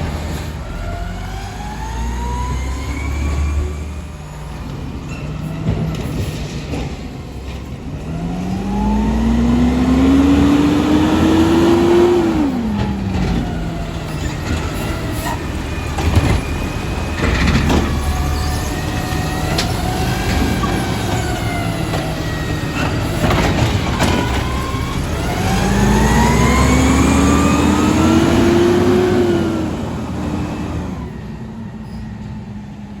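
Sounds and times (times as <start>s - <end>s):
truck diesel engine revving: 0.0s - 4.9s, 7.4s - 31.2s.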